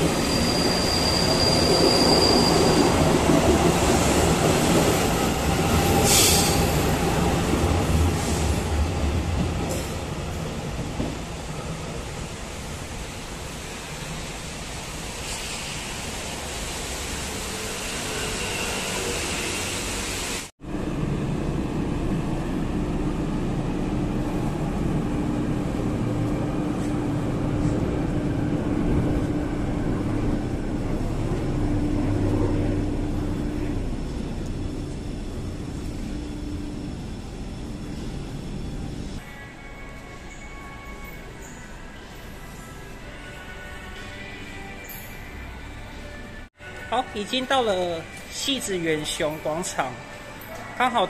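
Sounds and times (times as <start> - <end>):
train running: 0.0 - 46.8.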